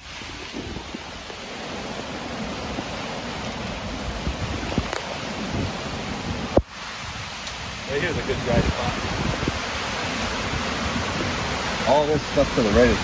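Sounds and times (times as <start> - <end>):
heavy surf: 0.0 - 13.0
wind buffeting microphone: 0.0 - 13.0
wind-driven rain: 0.0 - 13.0.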